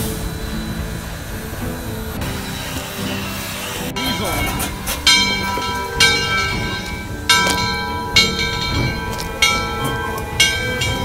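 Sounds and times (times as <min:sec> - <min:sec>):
locomotive bell ringing: 0:00.0 - 0:11.0
locomotive rumble: 0:00.0 - 0:11.0.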